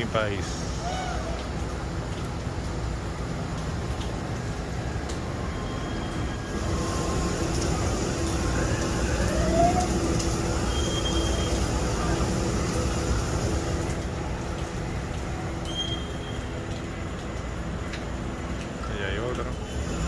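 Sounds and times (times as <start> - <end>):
rain: 0.0 - 20.0
vehicle traffic on flooded street: 0.0 - 20.0.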